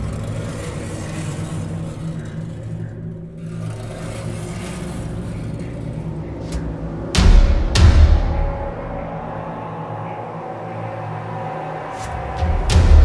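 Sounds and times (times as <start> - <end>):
dark cinematic drone music: 0.0 - 13.0.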